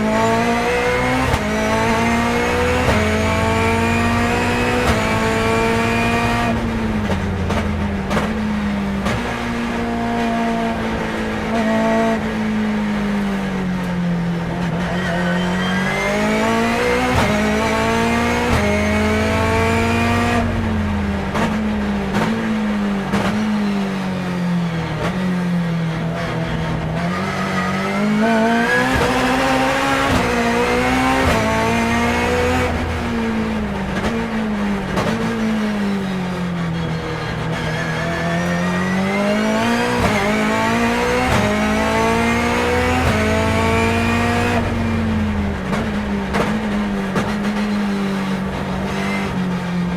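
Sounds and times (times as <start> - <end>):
race car engine accelerating: 0.0 - 49.9.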